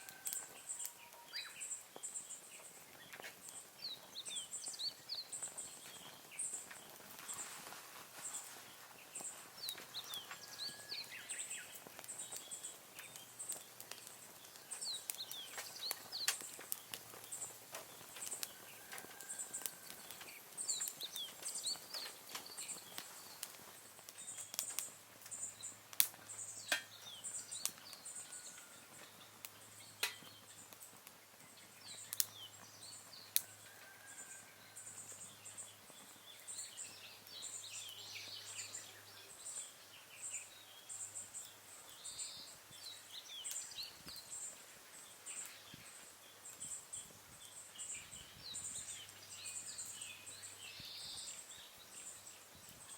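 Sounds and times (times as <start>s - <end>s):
birds chirping: 0.0s - 52.9s
twigs crackling in a stove: 0.0s - 52.9s.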